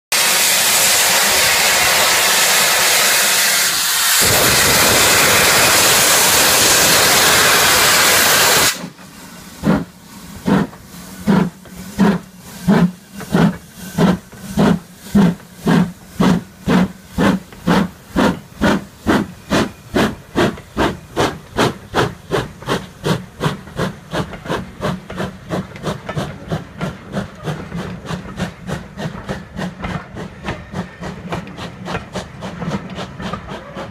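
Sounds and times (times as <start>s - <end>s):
loud hiss of steam: 0.1s - 31.3s
steam locomotive chuffing: 0.1s - 33.9s.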